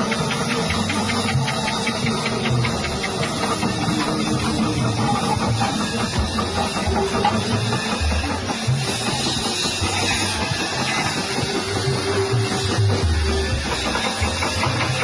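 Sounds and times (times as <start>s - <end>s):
background music with drums and bass: 0.0s - 15.0s.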